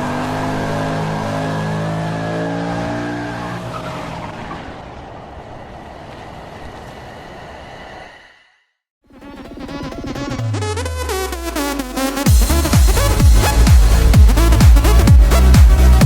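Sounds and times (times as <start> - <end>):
car engine running at speed: 0.0 - 6.8, 9.1 - 16.0.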